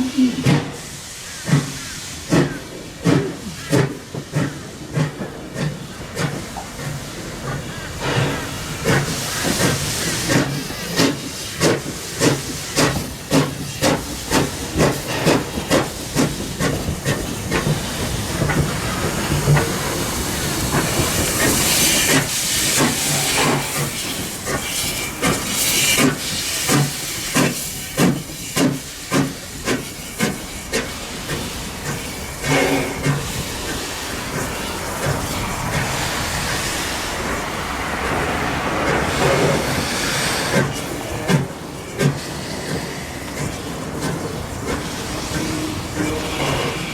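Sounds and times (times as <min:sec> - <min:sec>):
steam hissing: 0:00.0 - 0:46.9
steam locomotive exhaust beats: 0:00.0 - 0:46.9.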